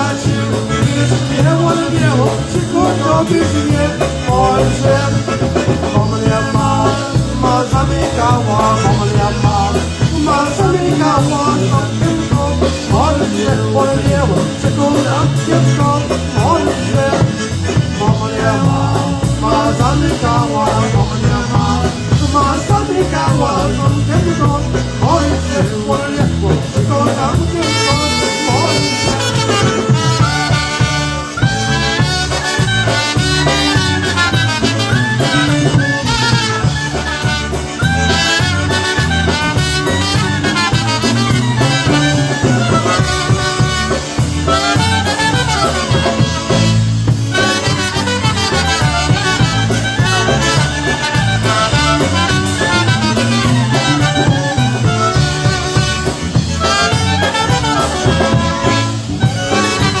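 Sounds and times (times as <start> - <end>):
polka band playing: 0.0 - 60.0.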